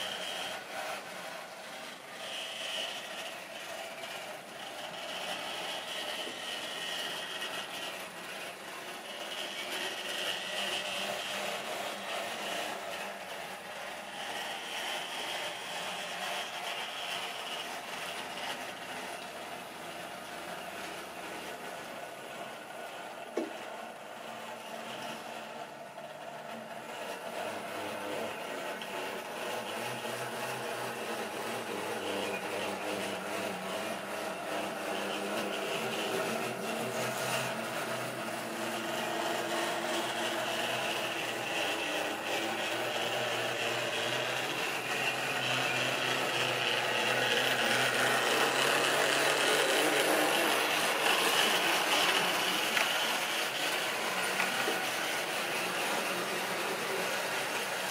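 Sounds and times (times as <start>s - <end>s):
model train motor whirring: 0.0s - 57.9s
wheels running on rails: 0.0s - 57.9s.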